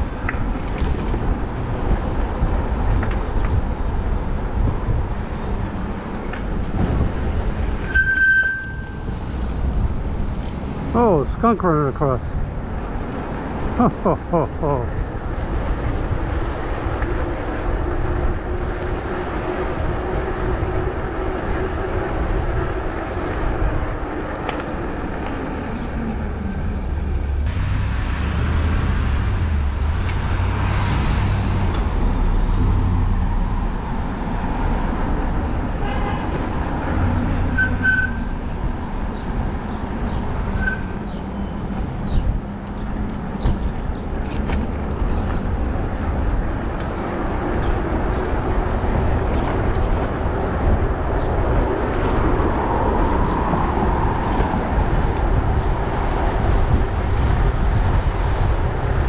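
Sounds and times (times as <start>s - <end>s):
road traffic passing: 0.0s - 59.0s.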